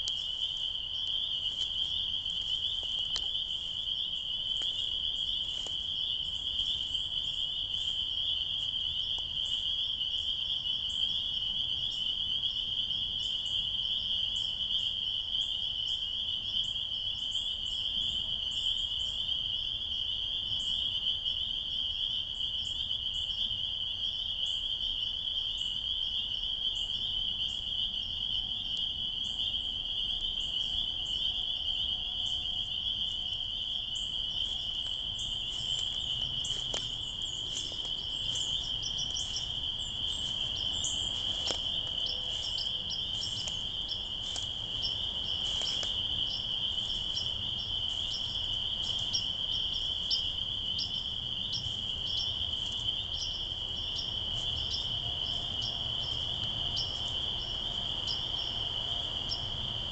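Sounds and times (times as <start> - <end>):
frog chorus: 0.0 - 59.9.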